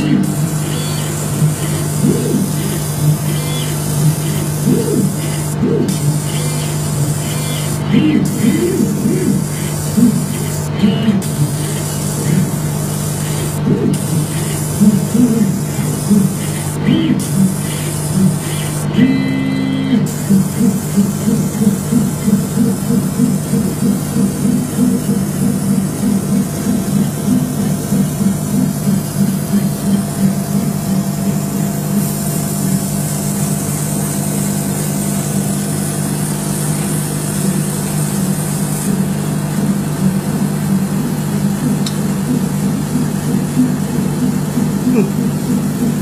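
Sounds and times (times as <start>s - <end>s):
laser cutter humming: 0.0s - 46.0s.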